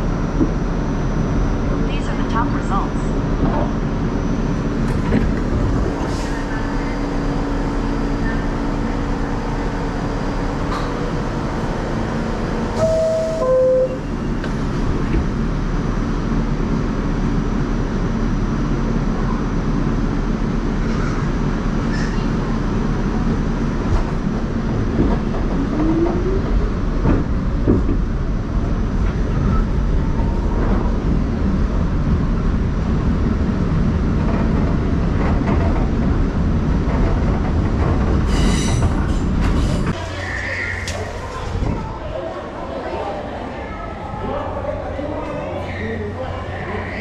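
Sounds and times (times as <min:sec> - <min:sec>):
subway train wheels rumbling: 0:00.0 - 0:47.0.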